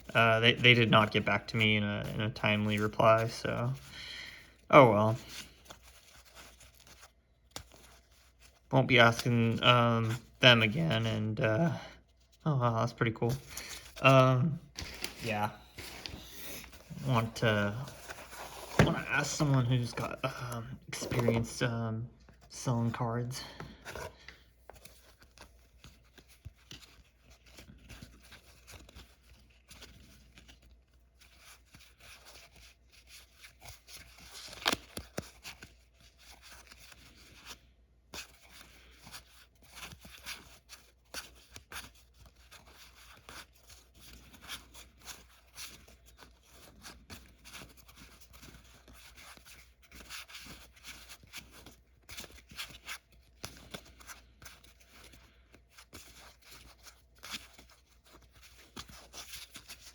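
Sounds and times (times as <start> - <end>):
cards rustling: 0.0 - 59.9.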